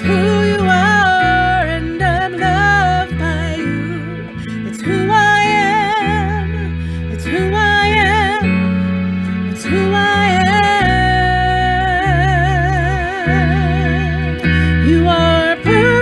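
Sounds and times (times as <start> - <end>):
woman singing worship song: 0.0 - 8.7, 9.4 - 16.0
sustained instrumental chords: 0.0 - 16.0.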